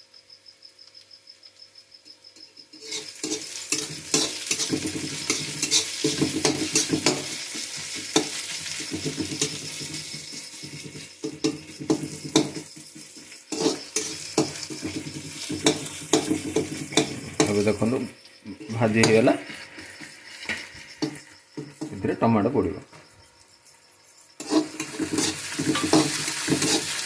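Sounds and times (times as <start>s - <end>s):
spatula scraping a pan: 2.4s - 22.0s, 24.4s - 27.0s
onion sizzling in hot oil: 2.4s - 22.2s, 24.4s - 27.0s.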